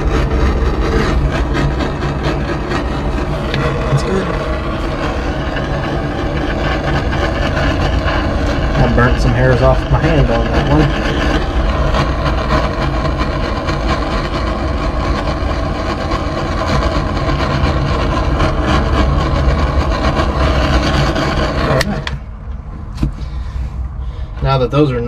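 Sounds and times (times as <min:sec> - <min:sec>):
heat gun fan blowing: 0:00.0 - 0:25.0.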